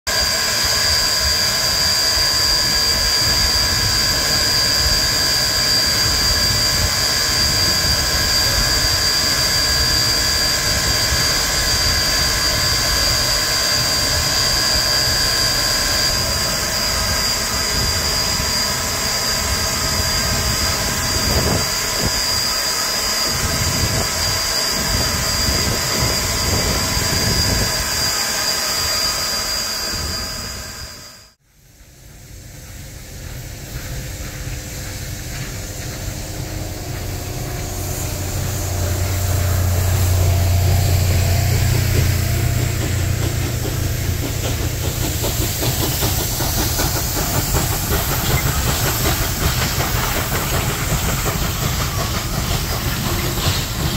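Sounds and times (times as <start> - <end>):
high steady whine: 0.1 - 53.9
steam locomotive hissing: 0.1 - 53.9.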